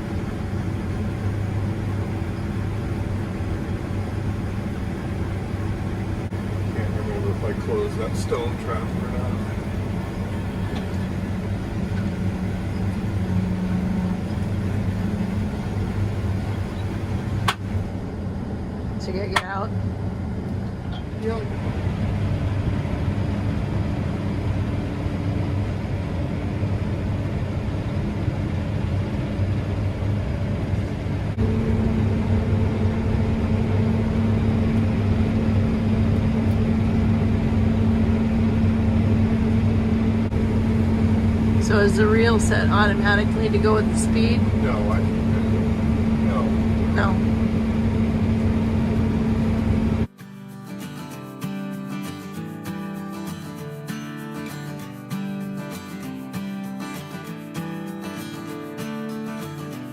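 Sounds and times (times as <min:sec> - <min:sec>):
combine harvester droning: 0:00.0 - 0:50.1.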